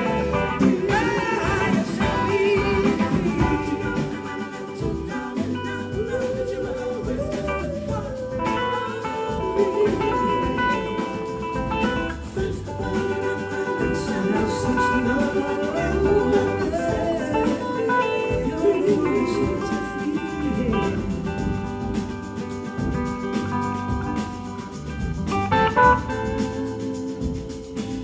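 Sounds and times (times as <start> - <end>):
blues rock band playing: 0.0 - 28.0.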